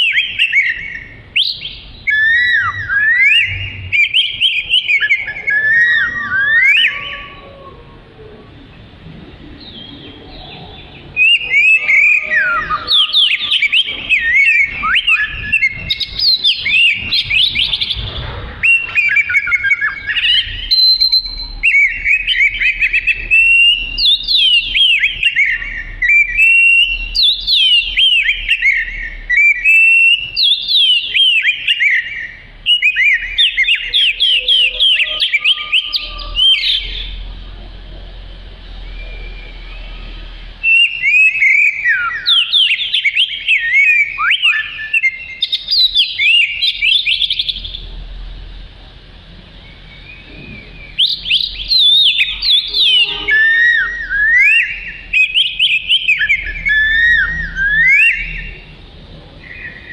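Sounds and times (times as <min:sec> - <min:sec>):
bird singing whistled phrases: 0:00.0 - 0:07.7, 0:09.6 - 0:18.0, 0:18.6 - 0:37.2, 0:38.8 - 0:47.8, 0:49.6 - 0:58.7, 0:59.4 - 0:59.9.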